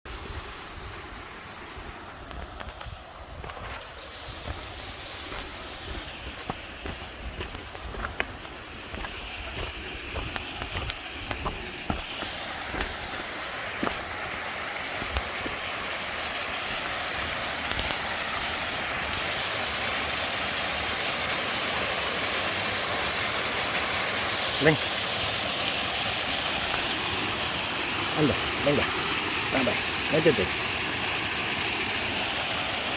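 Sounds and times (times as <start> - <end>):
waterfall rushing: 3.8 - 32.9.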